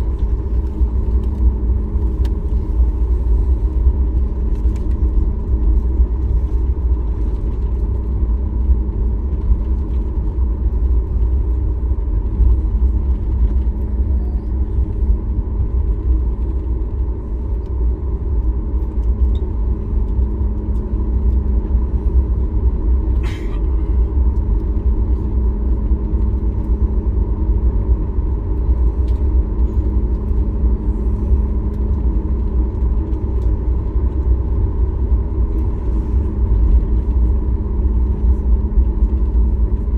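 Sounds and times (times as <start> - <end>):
airplane cabin drone: 0.0 - 39.9
faint steady hum: 0.0 - 39.9.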